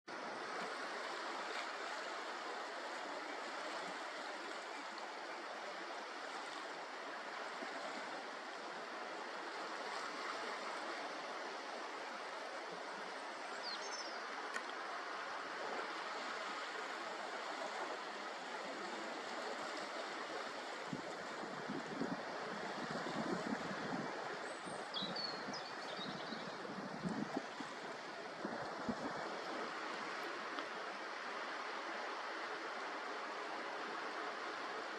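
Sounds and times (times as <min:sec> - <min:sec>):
sea surf washing: 0:00.1 - 0:34.9.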